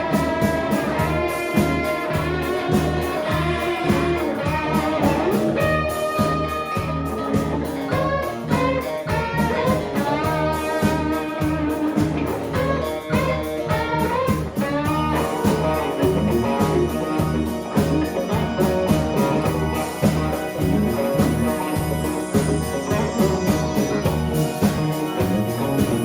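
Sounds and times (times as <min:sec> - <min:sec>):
bass: 0:00.0 - 0:26.0
drums keeping a beat: 0:00.0 - 0:26.0
guitar melody: 0:00.0 - 0:26.0.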